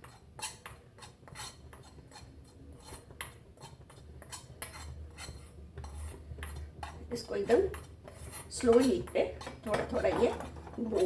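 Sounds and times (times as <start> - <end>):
spoon scraping powder in a pan: 0.0 - 11.0.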